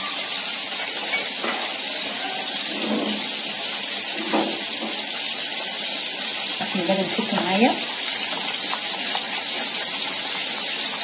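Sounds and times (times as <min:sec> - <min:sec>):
milk heating in a pot hissing: 0:01.9 - 0:11.0.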